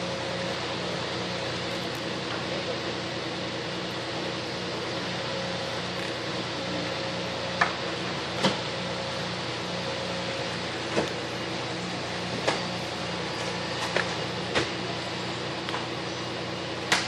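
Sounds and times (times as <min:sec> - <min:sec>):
fire engine humming and hissing: 0:00.0 - 0:17.0.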